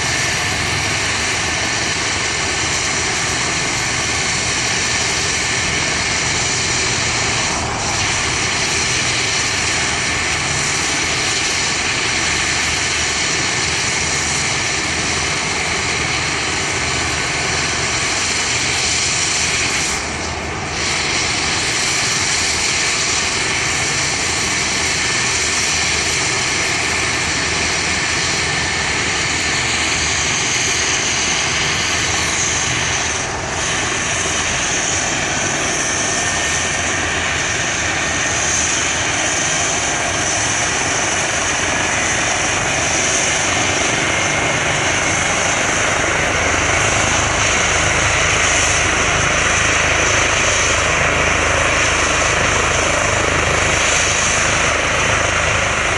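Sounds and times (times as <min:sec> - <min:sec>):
helicopter engine and rotor: 0:00.0 - 0:55.9
high turbine whine: 0:00.0 - 0:55.9.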